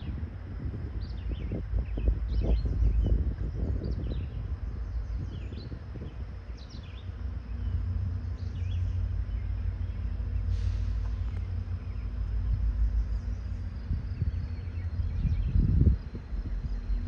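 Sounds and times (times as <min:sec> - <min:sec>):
steady low rumble: 0:00.0 - 0:17.0
small birds chirping: 0:00.9 - 0:17.0.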